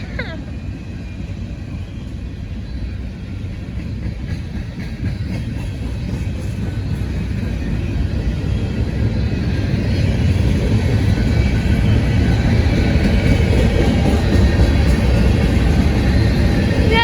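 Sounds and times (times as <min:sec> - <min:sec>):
train passing with low rumble: 0:00.0 - 0:17.0.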